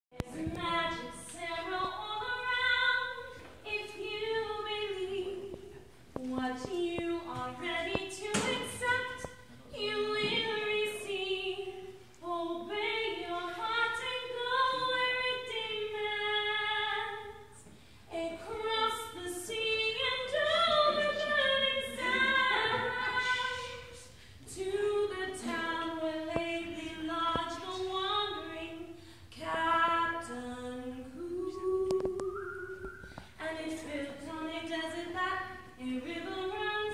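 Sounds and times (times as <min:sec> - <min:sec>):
women singing unaccompanied: 0:00.1 - 0:32.7, 0:33.4 - 0:36.9.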